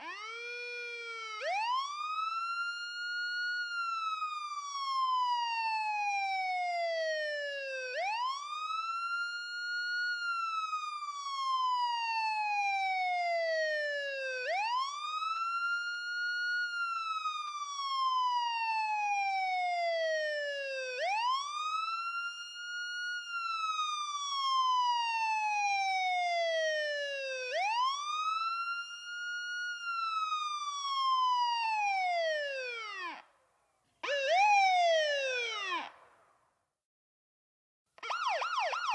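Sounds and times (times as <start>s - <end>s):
ambulance siren wailing: 0.0s - 33.3s, 34.0s - 36.0s, 38.0s - 38.9s.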